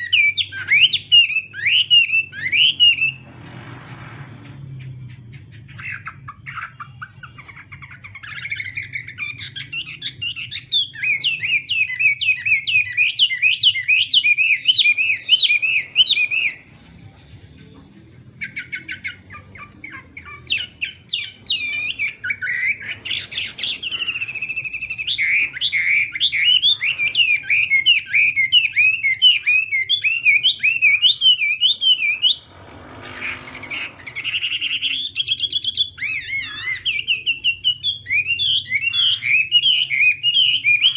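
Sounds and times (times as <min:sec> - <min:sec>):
songbird warbling: 0:04.7 - 0:16.8, 0:18.4 - 0:40.9.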